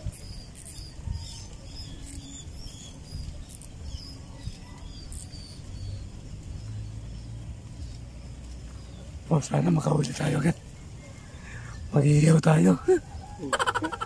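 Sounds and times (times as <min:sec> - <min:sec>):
small birds chirping: 0:00.0 - 0:14.0
wind rumble on microphone: 0:00.0 - 0:14.0.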